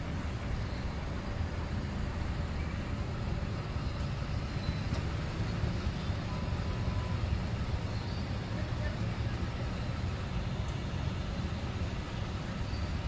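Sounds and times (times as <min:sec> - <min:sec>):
cars passing slowly: 0:00.0 - 0:13.0
low rumble of engines and tyres: 0:00.0 - 0:13.0.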